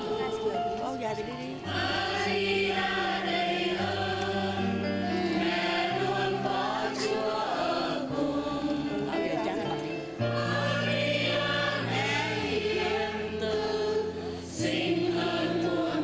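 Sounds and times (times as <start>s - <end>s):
choir singing a hymn: 0.0s - 16.0s
low held accompaniment notes: 0.0s - 16.0s.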